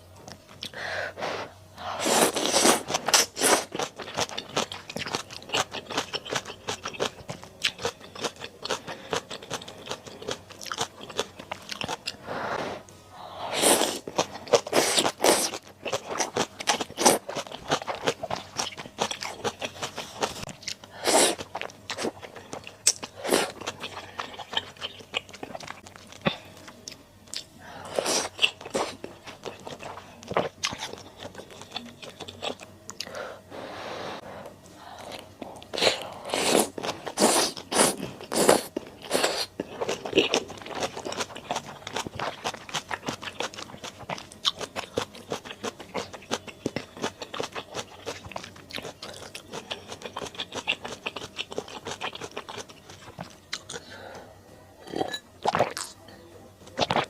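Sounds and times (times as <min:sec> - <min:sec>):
person chewing and crunching: 0:02.0 - 0:12.2, 0:13.5 - 0:33.1, 0:35.0 - 0:53.9, 0:54.8 - 0:56.0, 0:56.7 - 0:57.0.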